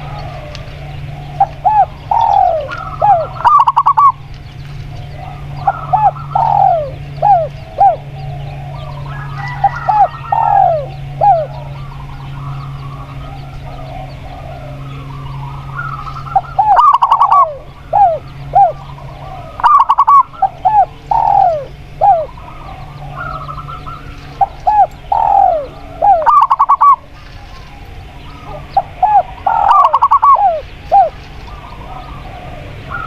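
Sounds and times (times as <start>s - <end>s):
doves cooing: 0.0s - 33.0s
low steady hum: 0.0s - 33.0s.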